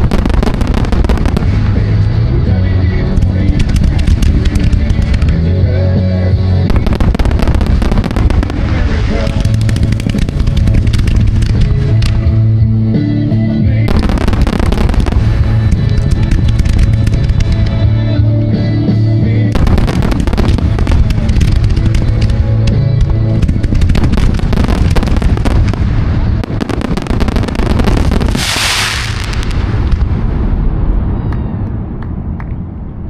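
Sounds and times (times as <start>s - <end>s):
fireworks bangs and crackles: 0.0s - 12.9s, 13.8s - 32.8s
music with long low notes: 0.0s - 33.0s.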